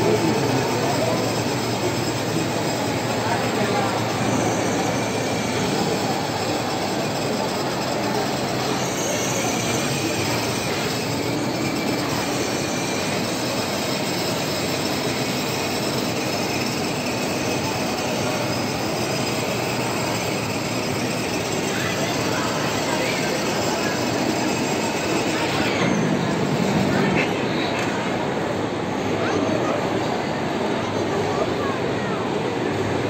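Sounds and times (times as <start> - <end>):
toy car whirring on tiled floor: 0.0 - 27.0.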